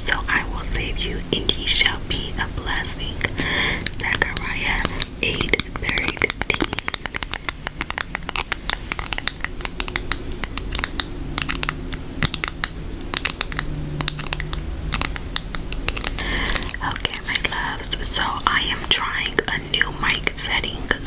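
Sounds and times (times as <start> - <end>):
nails tapping and scratching on card: 3.8 - 21.0.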